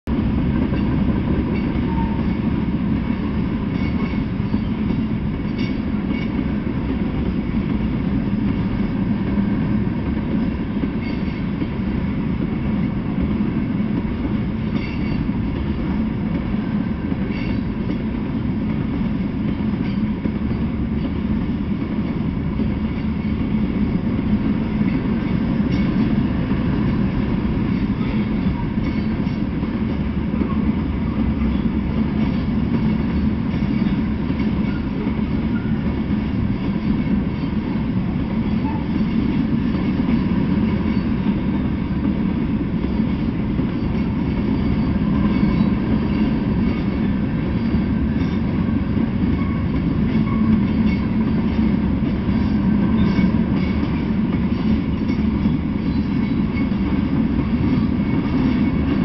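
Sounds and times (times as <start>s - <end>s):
train wheels rumbling on rails: 0.0s - 59.0s
faint rail clacks: 0.1s - 59.0s.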